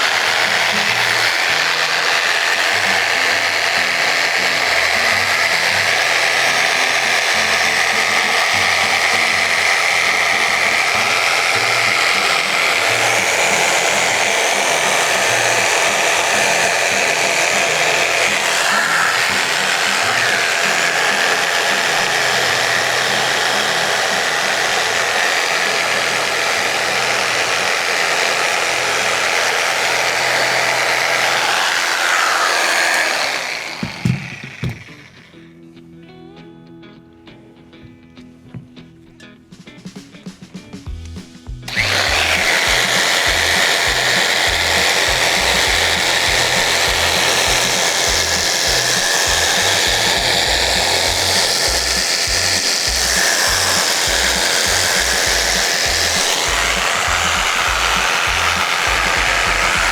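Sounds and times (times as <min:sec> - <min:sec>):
electric saw cutting foam: 0:00.0 - 0:35.4, 0:41.7 - 0:59.9.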